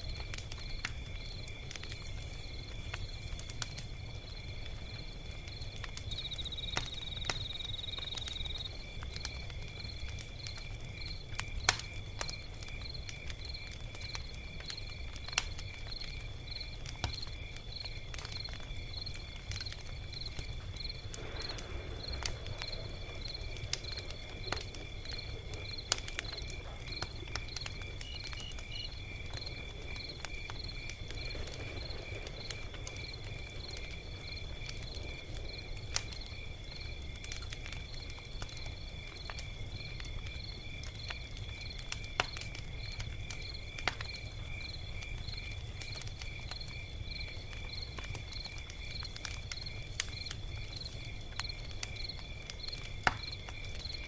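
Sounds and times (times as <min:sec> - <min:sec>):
crickets chirping: 0:00.0 - 0:54.0
log fire crackling and popping: 0:00.0 - 0:54.0.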